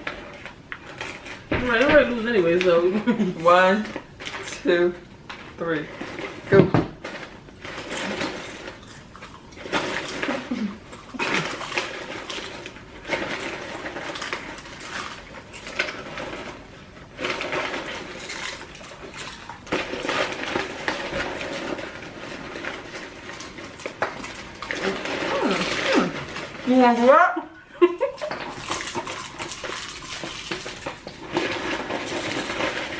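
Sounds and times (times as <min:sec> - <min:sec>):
people chewing and slurping: 0:00.0 - 0:32.9.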